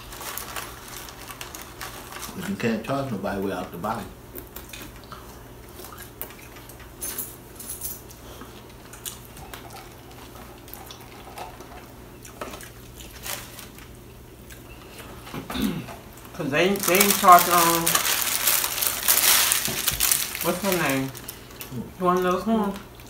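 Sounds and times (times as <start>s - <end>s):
clicks and rustles of eating: 3.4s - 23.0s.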